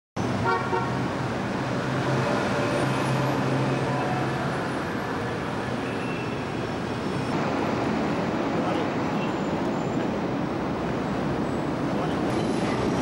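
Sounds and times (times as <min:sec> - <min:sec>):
street traffic: 0:00.2 - 0:13.0.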